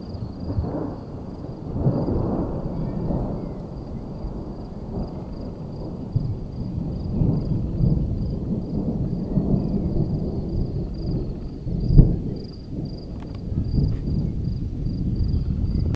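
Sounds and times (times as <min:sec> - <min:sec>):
insects chirping: 0:00.0 - 0:15.9
thunder crack: 0:00.0 - 0:15.9
thunder rumbling: 0:00.0 - 0:15.9.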